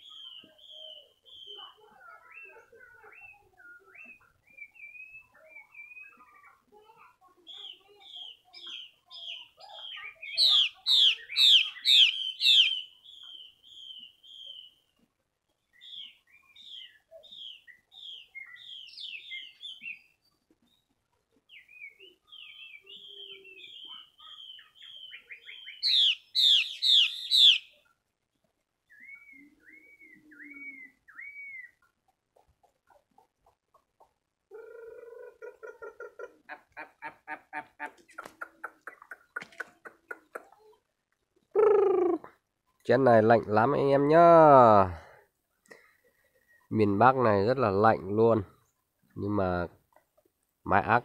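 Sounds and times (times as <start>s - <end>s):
bird chirping calls: 0.0s - 14.9s, 15.6s - 45.0s.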